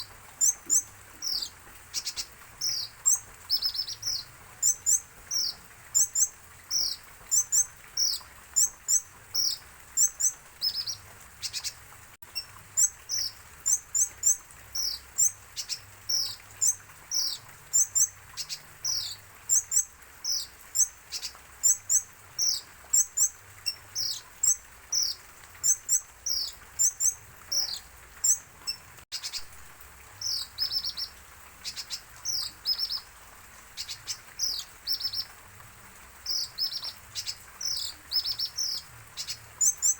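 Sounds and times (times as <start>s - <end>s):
sunbird high chirps: 0.0s - 11.8s, 12.4s - 29.5s, 30.2s - 33.1s, 33.8s - 35.3s, 36.2s - 39.9s.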